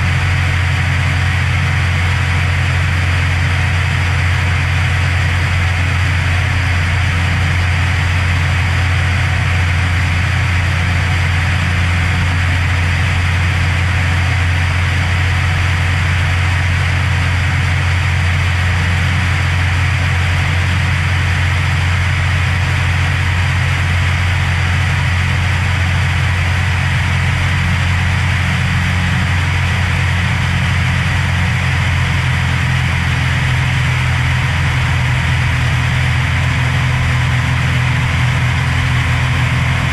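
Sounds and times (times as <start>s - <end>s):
airplane engine and propeller droning: 0.0s - 39.9s.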